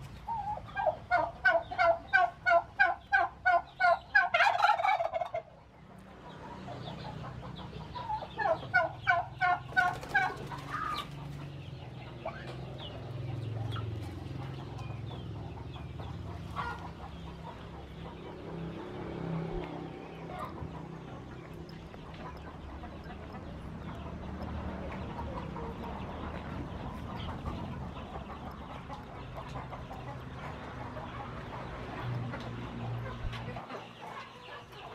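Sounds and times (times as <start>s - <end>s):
turkeys and chickens calling: 0.0s - 34.9s.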